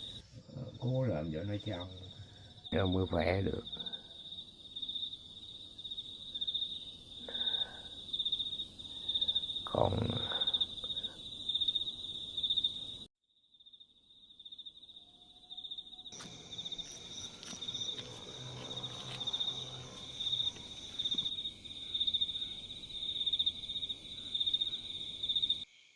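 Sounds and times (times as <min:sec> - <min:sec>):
crickets trilling: 0:00.0 - 0:25.9
higher insect trill: 0:00.0 - 0:25.9.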